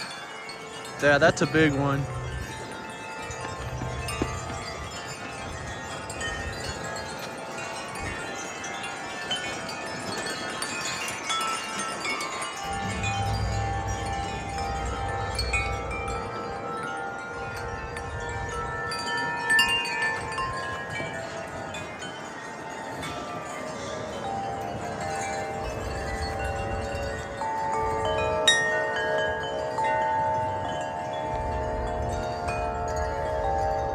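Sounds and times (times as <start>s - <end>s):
wind chimes ringing: 0.0s - 33.9s
wind gust rumbling on microphone: 0.0s - 33.9s.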